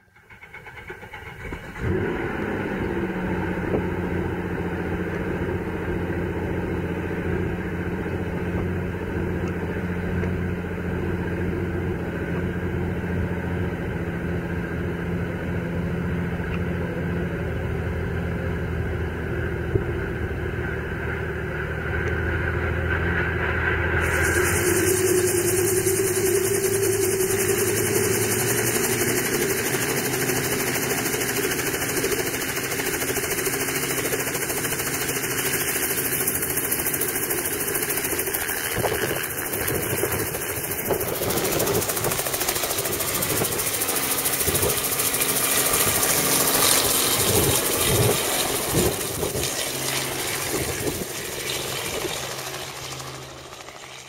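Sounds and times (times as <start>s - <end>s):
helicopter engine and rotor: 2.7s - 54.0s.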